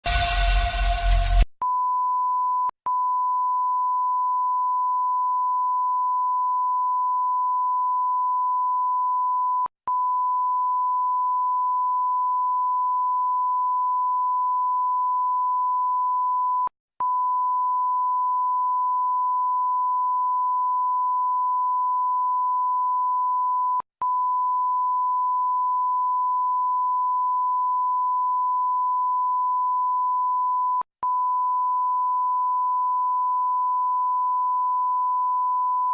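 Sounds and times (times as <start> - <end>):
high censor bleep tone: 1.6 - 35.9.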